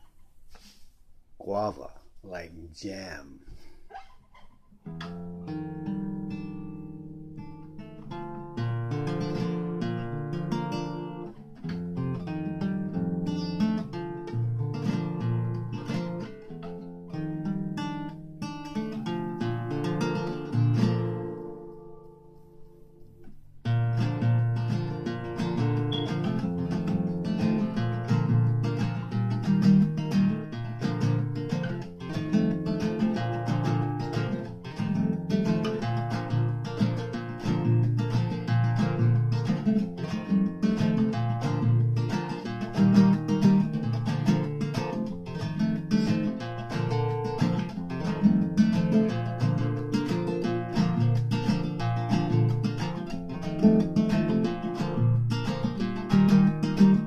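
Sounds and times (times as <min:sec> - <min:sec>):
acoustic guitar plucked and strummed: 0:03.1 - 0:57.0.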